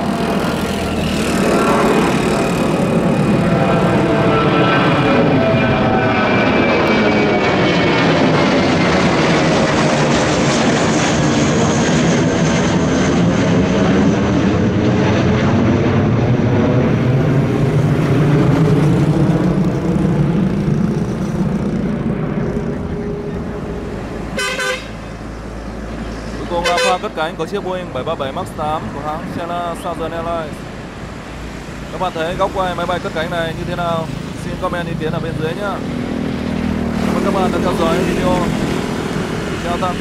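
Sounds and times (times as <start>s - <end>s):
jet engines at takeoff power: 0.0s - 40.0s.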